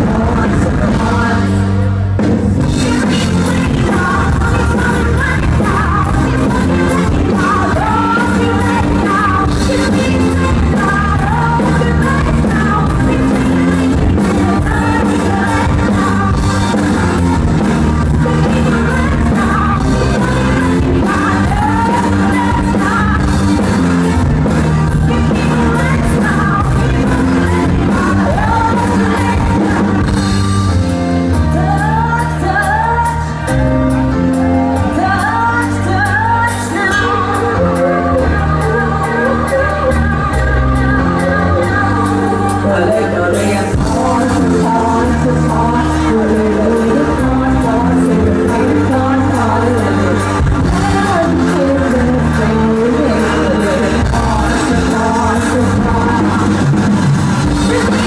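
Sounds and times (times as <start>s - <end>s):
pop-rock song with female vocals: 0.0s - 58.0s.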